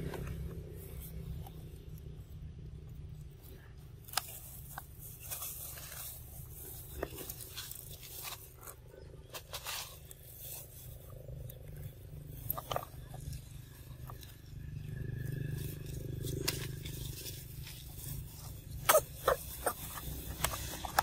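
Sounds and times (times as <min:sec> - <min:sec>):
dry leaves crackling: 0:00.0 - 0:21.0
monkeys chewing crisp fruit: 0:00.0 - 0:21.0
steady low rumble: 0:00.0 - 0:21.0.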